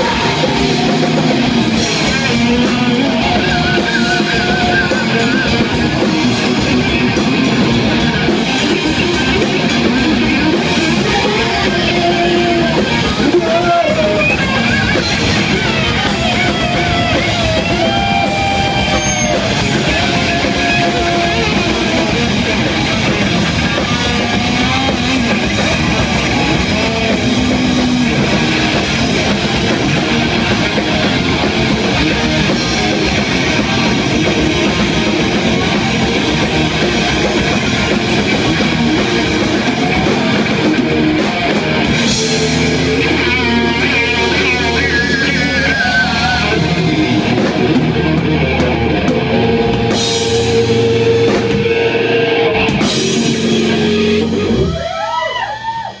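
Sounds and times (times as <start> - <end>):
distorted electric guitars: 0.0 - 56.0
drum kit: 0.0 - 56.0
guitar lead with bent notes: 0.0 - 56.0.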